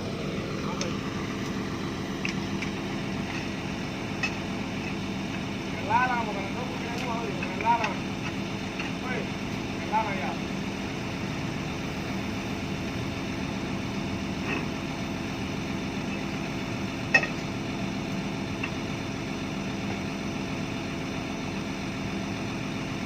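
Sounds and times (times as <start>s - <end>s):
heavy diesel engine idling: 0.0s - 23.0s.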